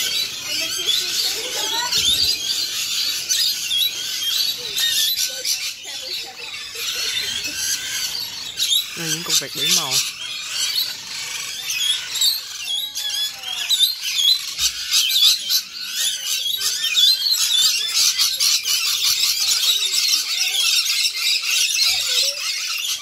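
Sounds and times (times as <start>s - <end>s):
lorikeets screeching and chattering: 0.0s - 23.0s.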